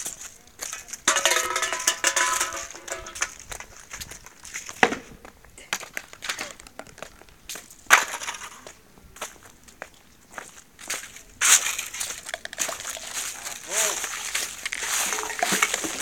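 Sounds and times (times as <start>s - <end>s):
rubbish clinking and crackling: 0.0s - 8.8s, 10.8s - 16.0s
footsteps crunching through litter: 0.0s - 16.0s.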